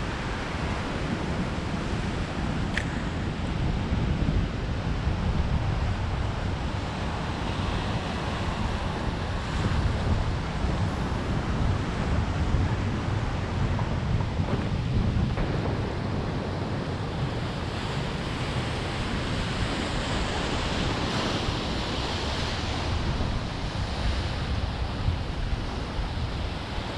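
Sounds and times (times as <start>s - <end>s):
ocean surf breaking: 0.0s - 26.9s
wind buffeting microphone: 0.0s - 26.9s.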